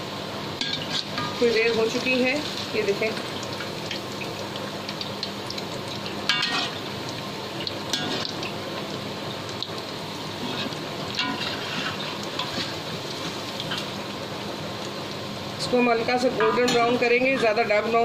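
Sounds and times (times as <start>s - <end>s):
deep-frying in hot oil: 0.0s - 18.0s.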